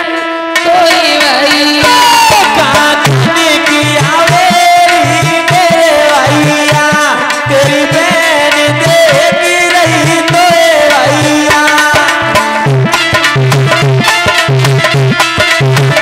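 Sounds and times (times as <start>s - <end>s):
man singing into a microphone: 0.0s - 16.0s
hand drum rhythm: 0.9s - 16.0s.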